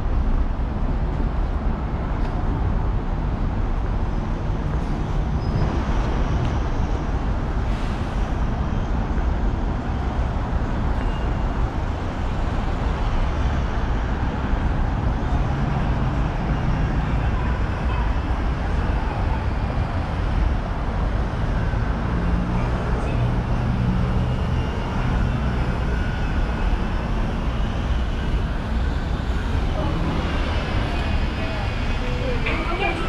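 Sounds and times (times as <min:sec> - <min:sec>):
road traffic passing: 0:00.0 - 0:33.0.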